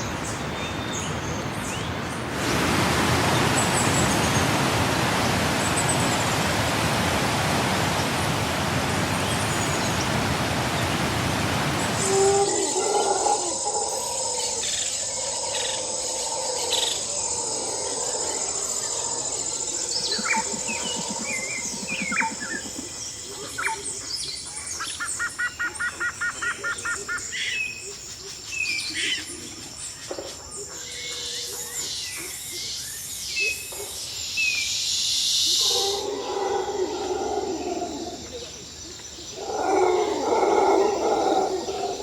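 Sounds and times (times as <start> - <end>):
wild birds chirping: 0.0 - 42.0.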